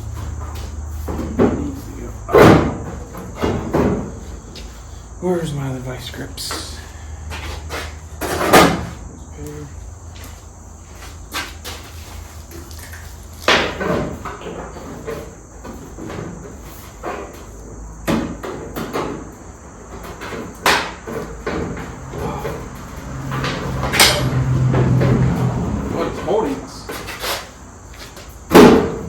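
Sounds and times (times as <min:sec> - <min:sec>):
hand tools and sheet metal clanking: 0:00.0 - 0:04.9, 0:06.4 - 0:09.0, 0:11.3 - 0:29.0.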